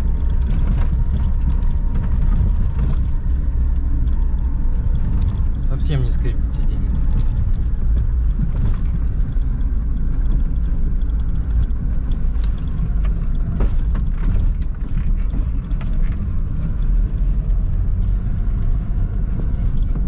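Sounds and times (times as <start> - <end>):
car engine and road rumble: 0.0 - 20.0
knocks and rattles from bumps: 0.0 - 20.0.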